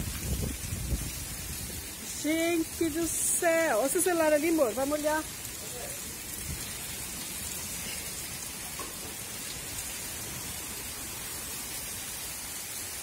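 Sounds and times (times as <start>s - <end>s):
heavy rain on wet ground: 0.0s - 13.0s.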